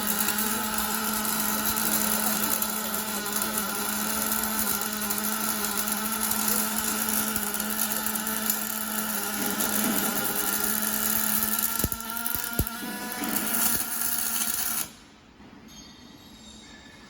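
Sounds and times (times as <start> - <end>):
welding arc hissing: 0.0 - 15.0.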